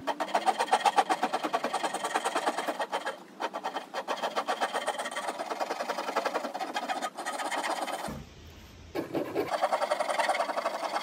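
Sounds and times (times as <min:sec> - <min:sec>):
rasp scraping wood: 0:00.0 - 0:08.1, 0:09.0 - 0:11.0.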